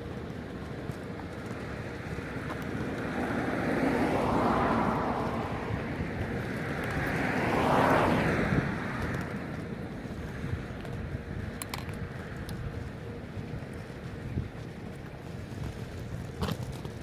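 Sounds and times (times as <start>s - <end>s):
road vehicles passing: 0.0s - 17.0s.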